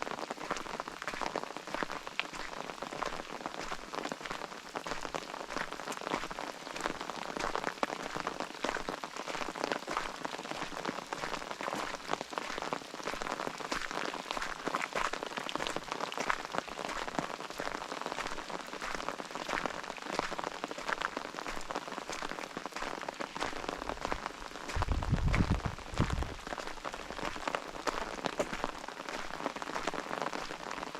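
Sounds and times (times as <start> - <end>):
rain drops pattering: 0.0 - 30.9.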